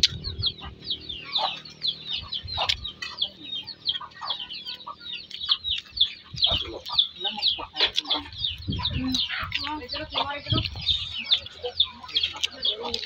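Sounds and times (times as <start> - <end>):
chickens peeping and clucking: 0.0 - 13.0.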